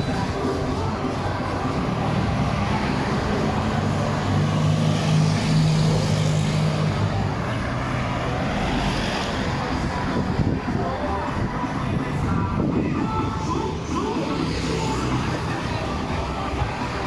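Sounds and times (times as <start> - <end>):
street traffic: 0.0 - 17.0
vehicle engine humming: 0.0 - 17.0.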